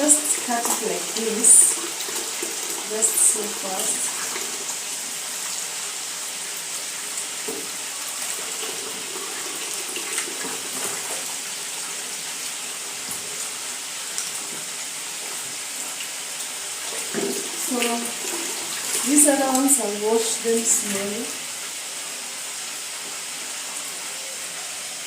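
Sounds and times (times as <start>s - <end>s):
kitchen tap running into sink: 0.0s - 25.0s.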